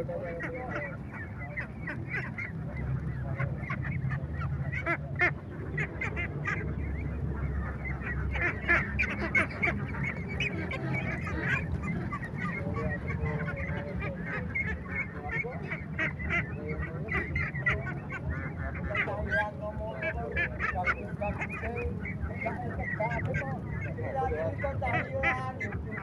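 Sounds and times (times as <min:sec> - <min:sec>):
ducks quacking: 0:00.0 - 0:26.0
low background rumble: 0:00.0 - 0:26.0.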